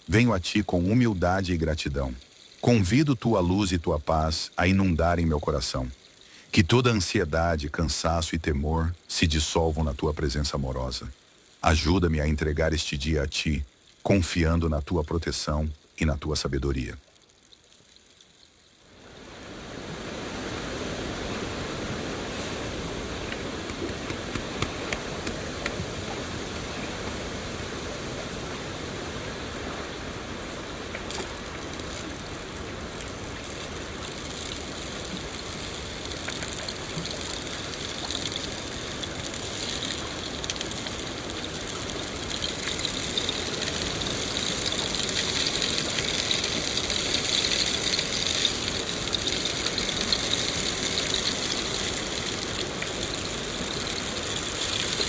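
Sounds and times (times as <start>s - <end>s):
faint raindrop ticks: 0.0s - 19.3s, 23.2s - 27.2s, 30.4s - 55.0s
steady rain falling: 0.0s - 55.0s.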